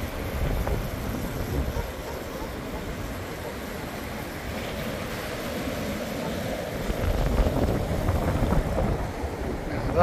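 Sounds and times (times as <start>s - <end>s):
wind rumbling on microphone: 0.0s - 3.4s, 4.5s - 10.0s
surf breaking on beach: 0.0s - 10.0s.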